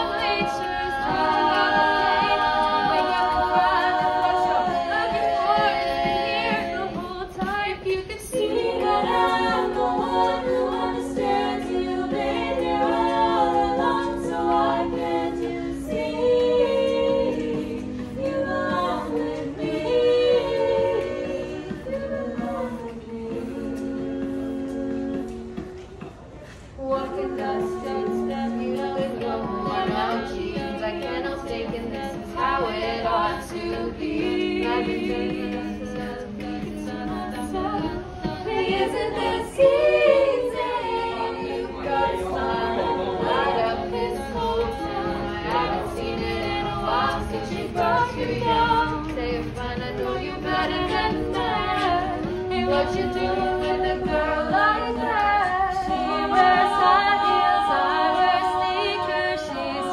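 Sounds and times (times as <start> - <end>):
a cappella group singing: 0.0 - 59.9.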